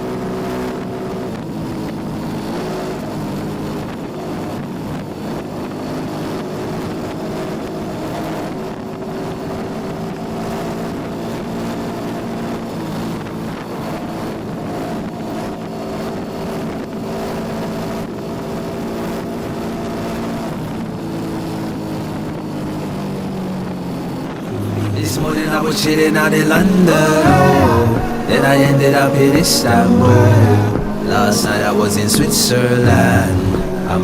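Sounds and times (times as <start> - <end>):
wind noise on microphone: 0.0 - 34.0.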